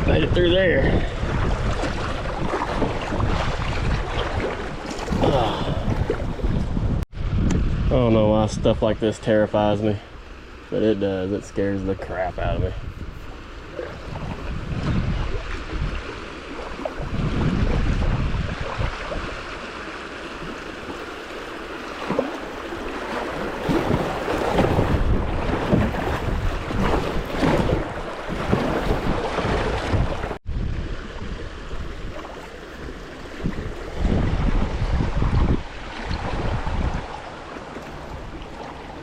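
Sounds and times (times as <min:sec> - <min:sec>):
creek water rushing and splashing: 0:00.0 - 0:06.6, 0:09.3 - 0:39.0
wind buffeting microphone: 0:00.0 - 0:09.1, 0:11.8 - 0:19.6, 0:22.1 - 0:39.0.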